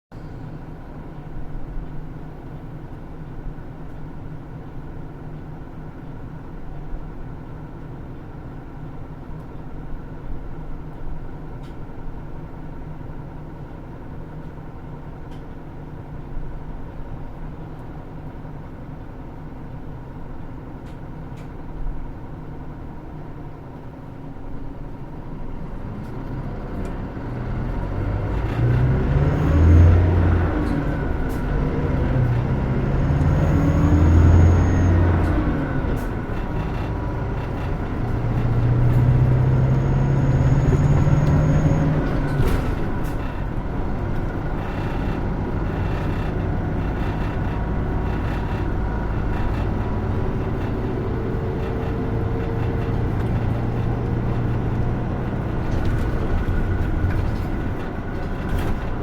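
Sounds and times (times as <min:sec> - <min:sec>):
bus engine running: 0:00.1 - 0:59.0.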